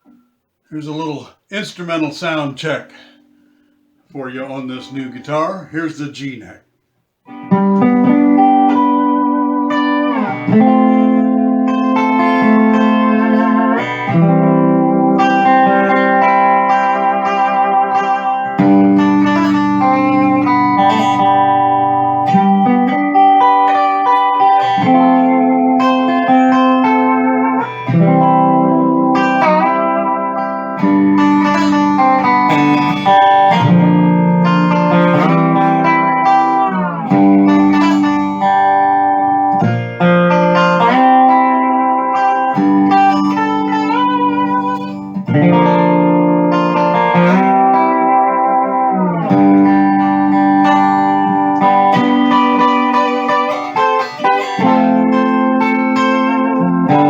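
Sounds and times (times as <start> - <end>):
steel guitar chords with bends: 0.0 - 6.5, 7.3 - 57.0.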